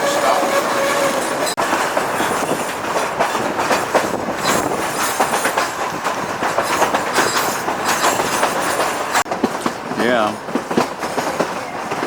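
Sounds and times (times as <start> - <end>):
train wheels clicking on rails: 0.0 - 12.0.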